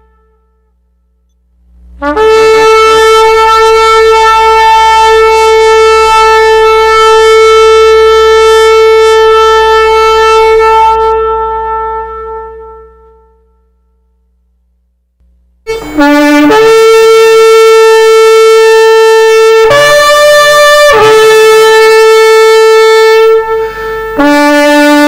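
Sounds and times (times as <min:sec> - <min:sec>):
horn long held note: 0:00.0 - 0:01.3, 0:01.9 - 0:14.4, 0:15.6 - 0:25.0.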